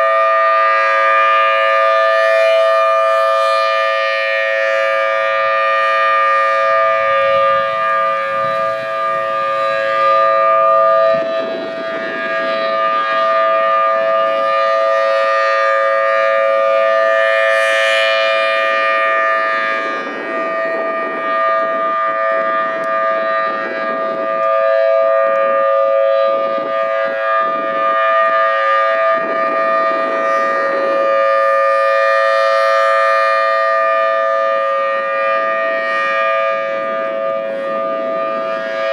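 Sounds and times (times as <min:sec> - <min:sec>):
tornado siren two-note chord: 0:00.0 - 0:38.9.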